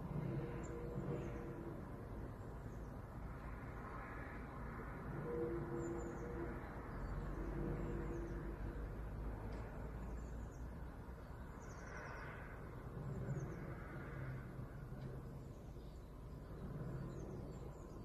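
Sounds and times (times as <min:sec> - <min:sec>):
low droning hum from the sky: 0:00.0 - 0:18.0.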